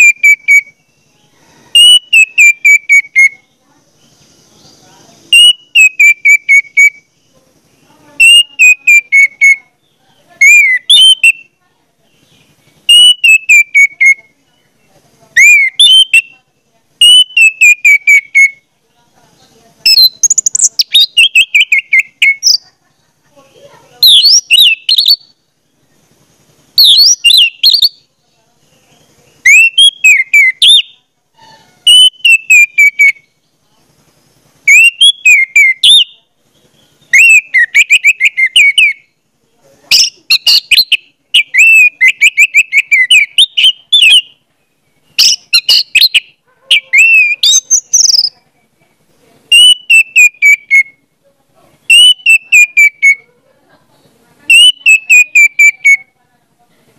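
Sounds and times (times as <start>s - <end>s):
bird singing chirping phrases: 0.0s - 56.5s.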